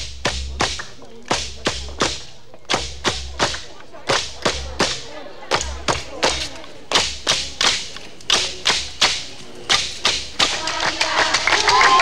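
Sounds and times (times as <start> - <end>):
hand drum thumps and slaps: 0.0 - 10.5.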